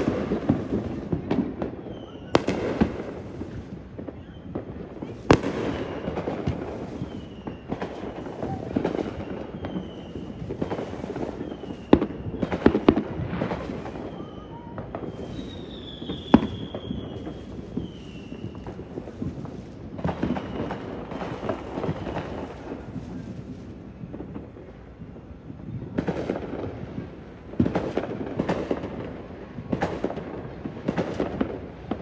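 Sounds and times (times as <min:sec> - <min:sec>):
fireworks bangs: 0:00.0 - 0:32.0
fireworks crackling and popping: 0:00.0 - 0:32.0
high firework whistles: 0:00.0 - 0:32.0.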